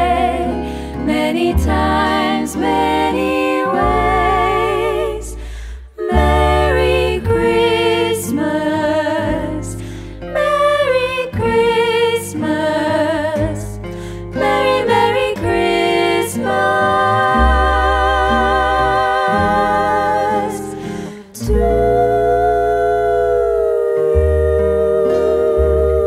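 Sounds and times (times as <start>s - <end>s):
acoustic guitar: 0.0s - 26.0s
upright double bass: 0.0s - 26.0s
women singing in close harmony: 0.0s - 26.0s.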